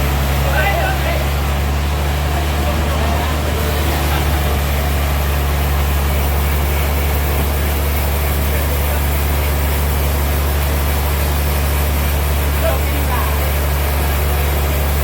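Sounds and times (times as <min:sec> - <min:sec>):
sawmill engine droning: 0:00.0 - 0:15.0.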